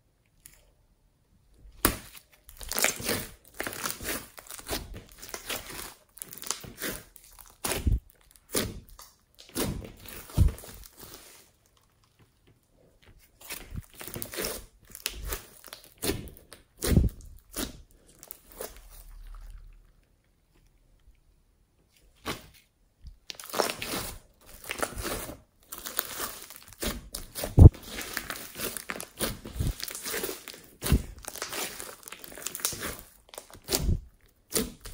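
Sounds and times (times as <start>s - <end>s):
slime crunching and popping: 1.7s - 12.2s, 13.4s - 20.3s, 23.1s - 34.9s.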